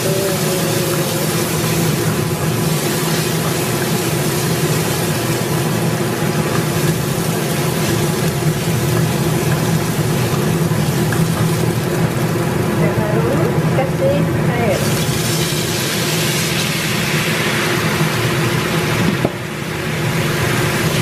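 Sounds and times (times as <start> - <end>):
garlic sizzling in hot oil: 0.0 - 21.0
steady mechanical hum: 0.0 - 21.0.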